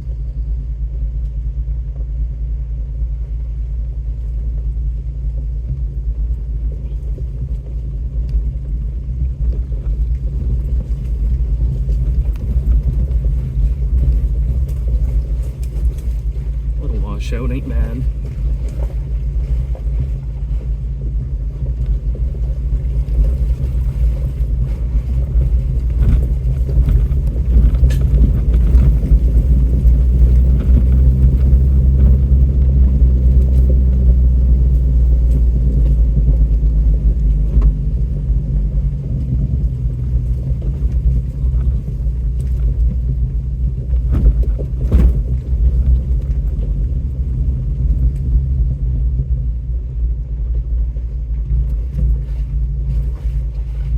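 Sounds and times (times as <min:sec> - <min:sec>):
vehicle engine rumbling: 0:00.0 - 0:53.9.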